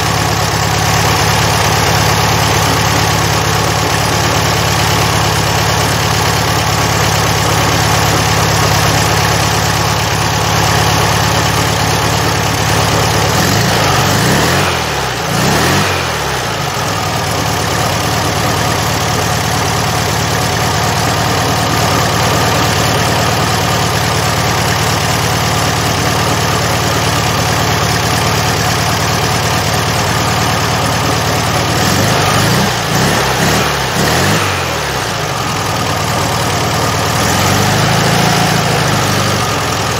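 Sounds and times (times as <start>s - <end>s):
air-cooled engine idling and revving: 0.0s - 39.9s.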